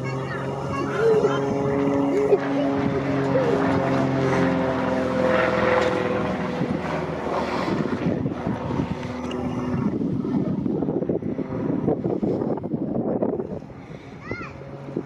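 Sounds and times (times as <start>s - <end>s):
steady engine drone: 0.0s - 15.0s
wind buffeting microphone: 0.0s - 15.0s.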